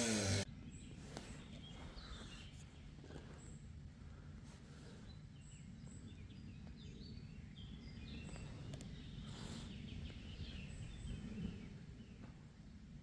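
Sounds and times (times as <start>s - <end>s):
small birds chirping: 0.5s - 13.0s.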